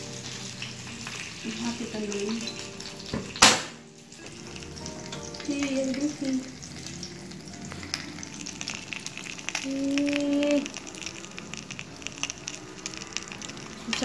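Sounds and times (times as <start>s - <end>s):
burger sizzling in frying pan: 0.0s - 14.0s.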